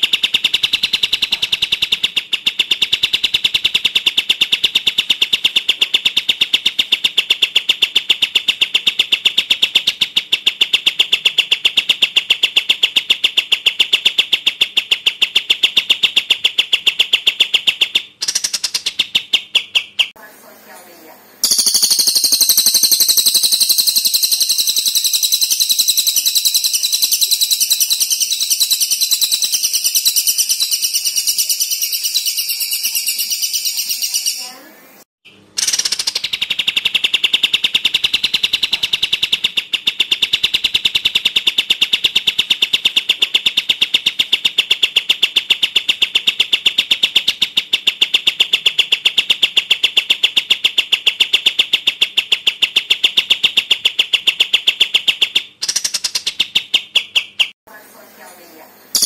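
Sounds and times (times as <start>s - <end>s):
fast high-pitched bird notes: 0.0s - 20.2s, 21.4s - 34.7s, 35.6s - 57.6s.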